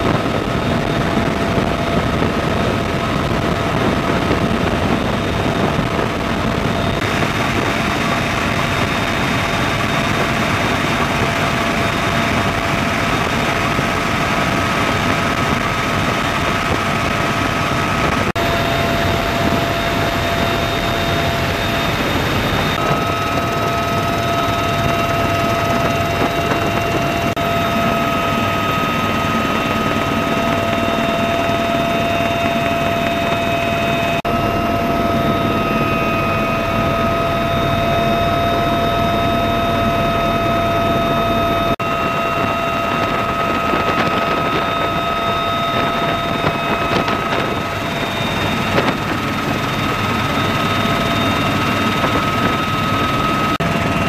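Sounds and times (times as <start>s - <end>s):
helicopter rotor and turbine din: 0.0s - 54.0s
high turbine whine: 0.0s - 54.0s.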